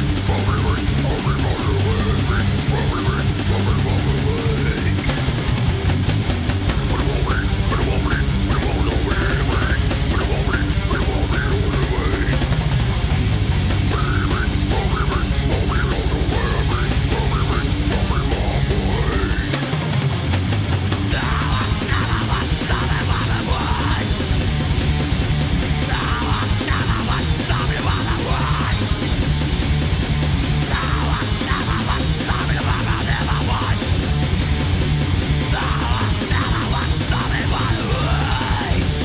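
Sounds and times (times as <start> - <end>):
distorted electric guitars: 0.0 - 39.0
fast drums: 0.0 - 39.0.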